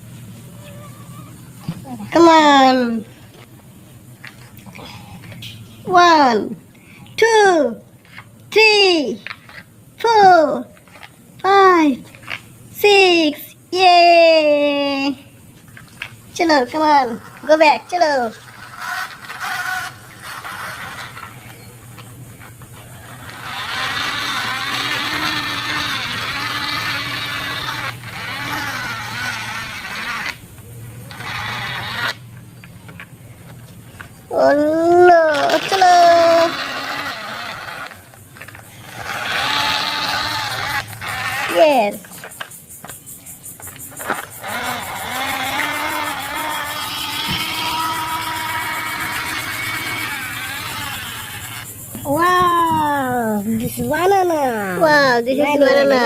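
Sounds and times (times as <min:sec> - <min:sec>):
toy vehicle motor whirring: 0:07.2 - 0:56.0.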